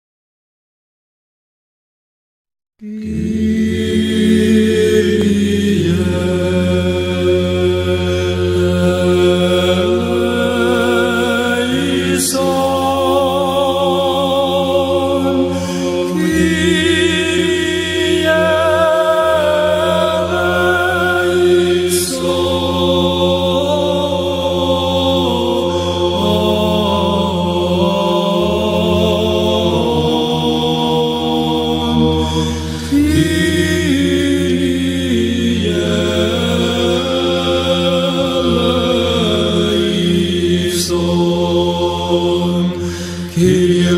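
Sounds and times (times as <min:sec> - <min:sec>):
low held vocal drone: 0:02.8 - 0:43.9
voices chanting ornamented melody: 0:02.8 - 0:43.9.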